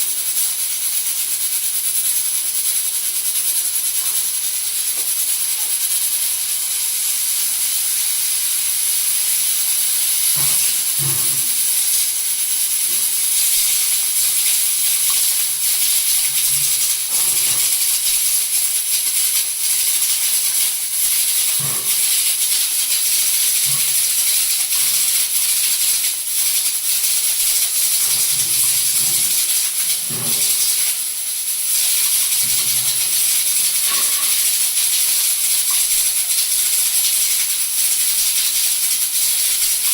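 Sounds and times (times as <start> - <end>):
pressure cooker steam whistle hissing: 0.0 - 39.9.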